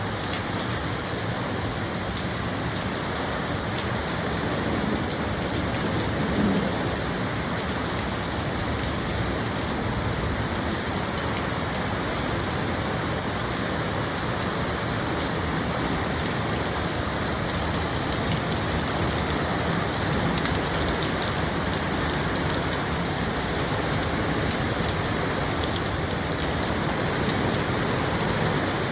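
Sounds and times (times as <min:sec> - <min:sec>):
rain falling: 0:00.0 - 0:28.9.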